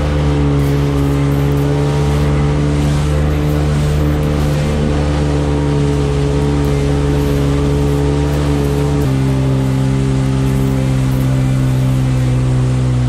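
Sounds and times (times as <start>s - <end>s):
jet ski engine running: 0.0s - 13.0s
water rushing and spraying: 0.0s - 13.0s.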